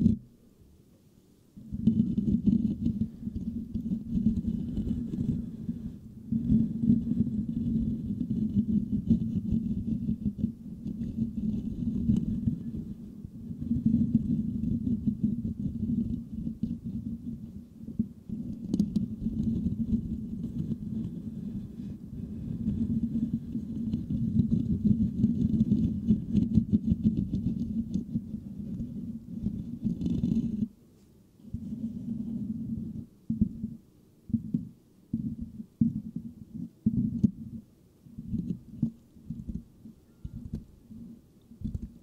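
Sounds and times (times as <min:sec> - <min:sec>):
fingertips scratching microphone grille: 0:00.0 - 0:00.2, 0:01.6 - 0:42.0.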